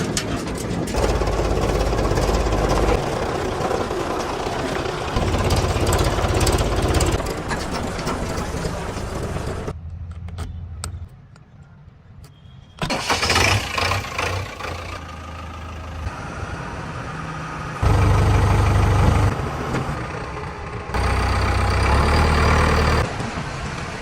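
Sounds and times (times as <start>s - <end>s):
tractor diesel engine running: 0.0s - 9.8s, 12.8s - 24.0s.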